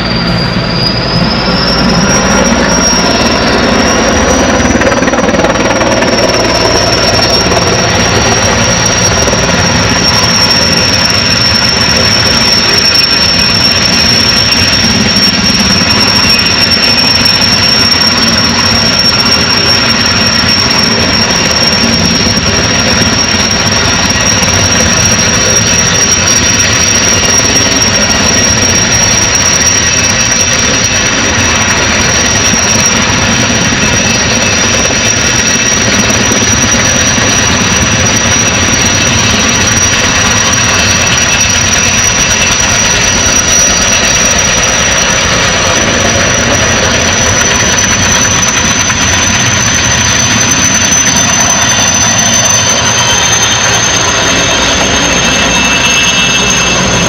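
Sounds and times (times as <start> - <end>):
helicopter rotor and engine noise: 0.0 - 57.0
high-pitched turbine whine: 0.0 - 57.0.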